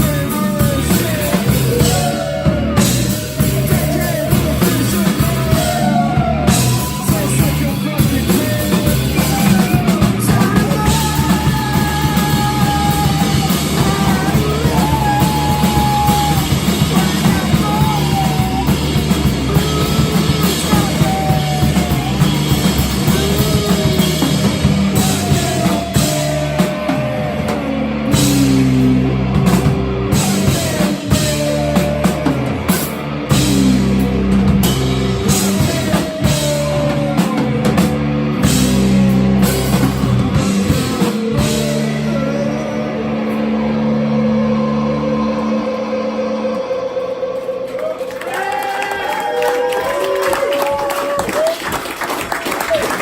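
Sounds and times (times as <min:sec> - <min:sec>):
drum kit beat: 0:00.0 - 0:42.5
person singing: 0:00.0 - 0:51.5.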